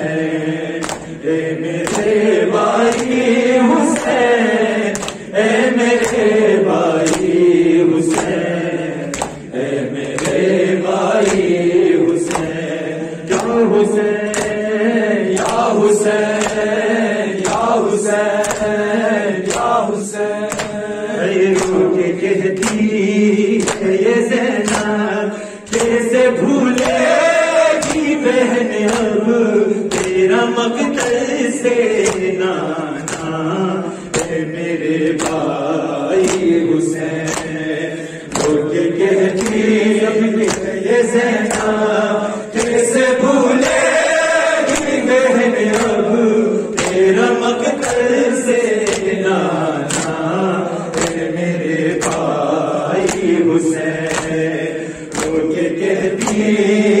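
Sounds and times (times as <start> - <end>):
man chanting into a microphone: 0.0 - 57.0.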